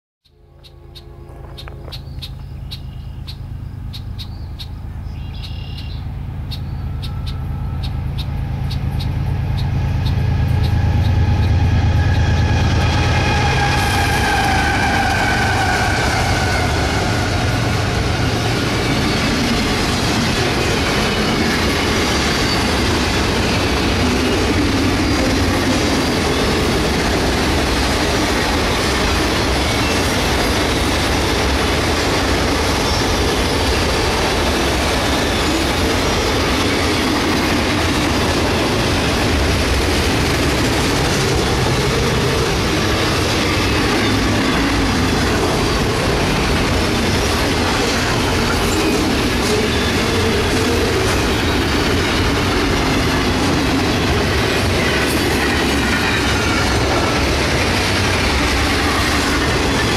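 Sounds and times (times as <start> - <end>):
locomotive engine drone: 0.3 - 59.9
train cars rumbling past: 0.3 - 59.9.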